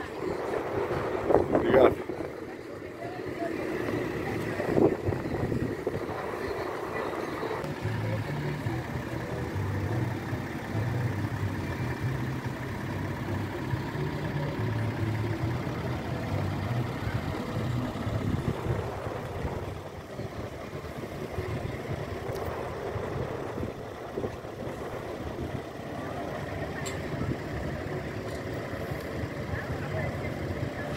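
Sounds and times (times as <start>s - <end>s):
large engine idling: 0.0s - 30.9s.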